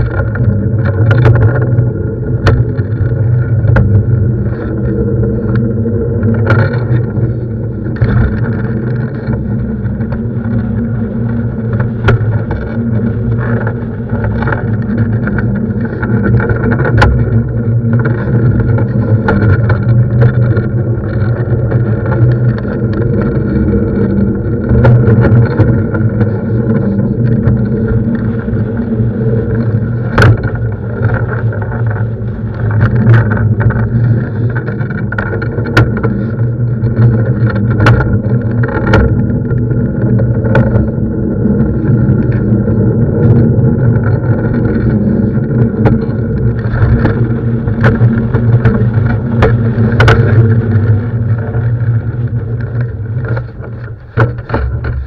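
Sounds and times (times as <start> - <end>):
longboard wheels rumbling on asphalt: 0.0 - 55.0.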